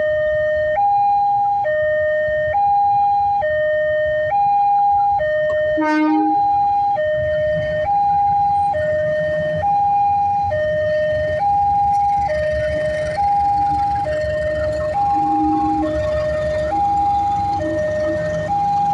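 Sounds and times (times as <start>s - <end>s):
two-tone level crossing alarm: 0.0s - 18.9s.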